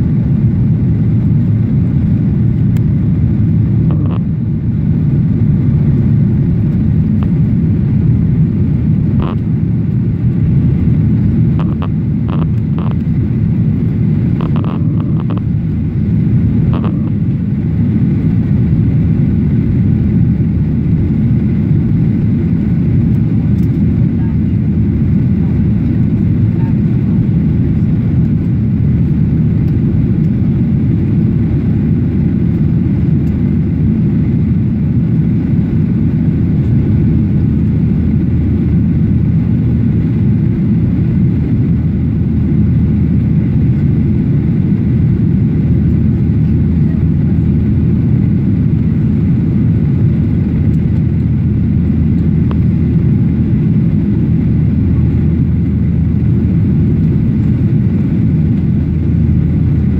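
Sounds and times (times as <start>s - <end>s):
airplane cabin engine noise: 0.0s - 59.9s.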